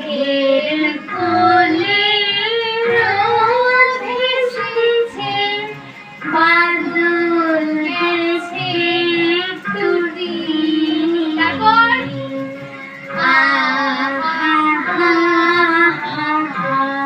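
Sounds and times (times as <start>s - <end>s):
backing music: 0.0s - 17.0s
child singing: 0.0s - 17.0s.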